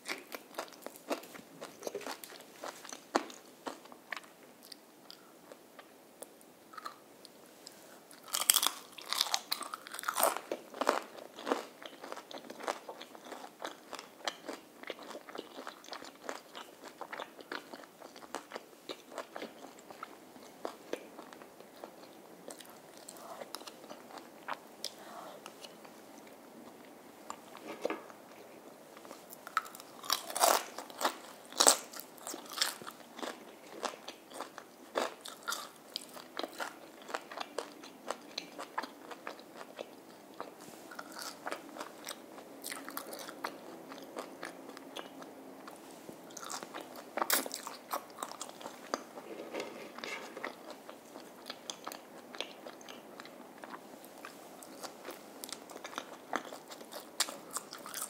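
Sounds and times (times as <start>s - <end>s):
crunchy chewing of fried food: 0.0s - 58.0s.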